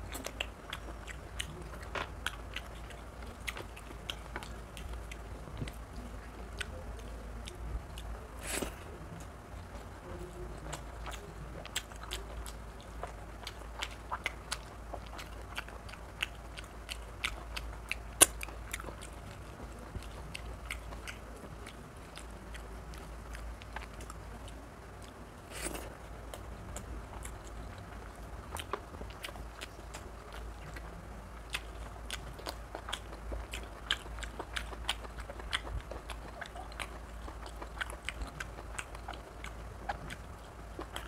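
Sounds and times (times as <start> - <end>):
chewing food: 0.0 - 41.0.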